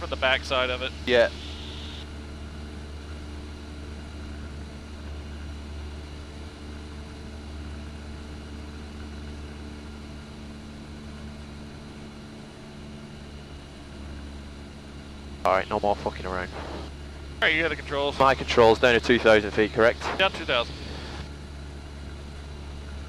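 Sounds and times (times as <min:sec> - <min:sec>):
airplane engine drone in cabin: 0:00.0 - 0:23.0.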